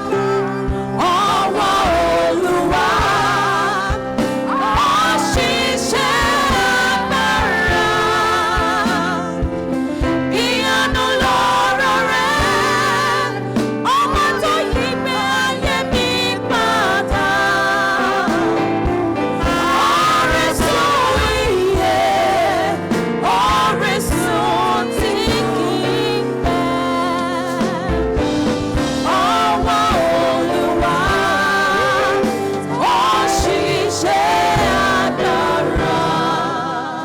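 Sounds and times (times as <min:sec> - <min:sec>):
gospel singing: 0:00.0 - 0:37.0.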